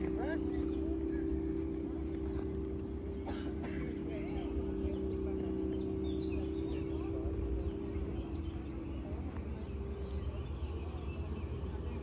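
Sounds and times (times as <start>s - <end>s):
birds chirping: 0.0s - 12.0s
motorboat engine humming: 0.0s - 12.0s.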